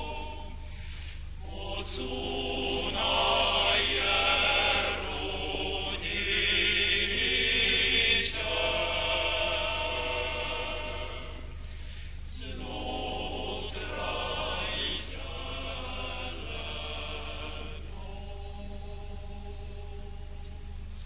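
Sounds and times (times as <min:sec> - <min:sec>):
choral singing: 0:00.0 - 0:11.7, 0:12.3 - 0:20.9.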